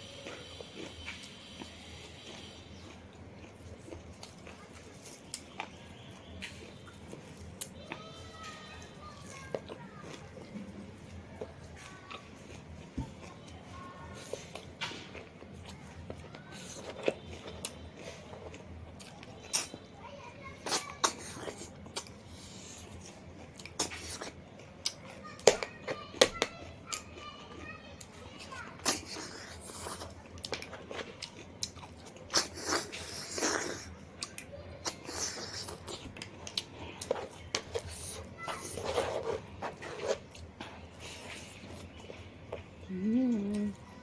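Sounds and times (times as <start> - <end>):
person chewing and crunching food: 0.0 - 44.0.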